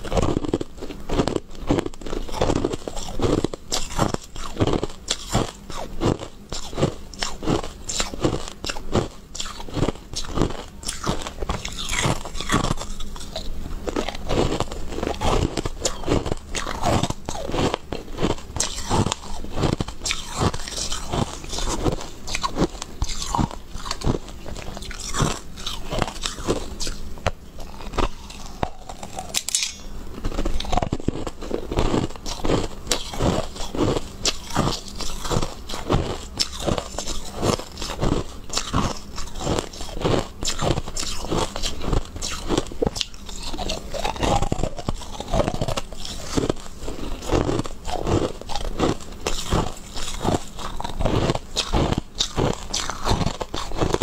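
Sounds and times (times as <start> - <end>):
crunching and chewing: 0.0 - 54.0.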